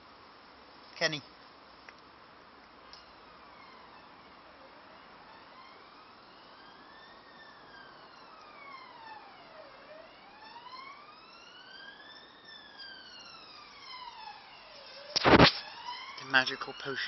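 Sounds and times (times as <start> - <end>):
faint wailing siren: 2.3 - 17.0.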